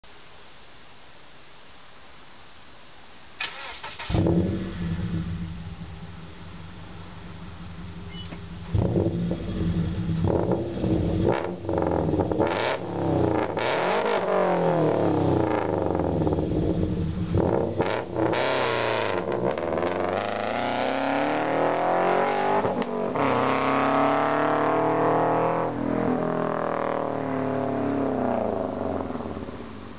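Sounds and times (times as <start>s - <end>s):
car engine idling and revving: 4.0s - 29.9s.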